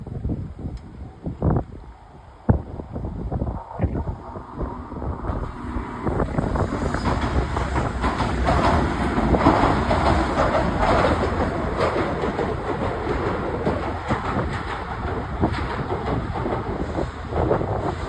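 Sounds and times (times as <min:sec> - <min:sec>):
strong wind: 0:00.0 - 0:18.0
vehicle rumble and clatter: 0:00.0 - 0:18.0.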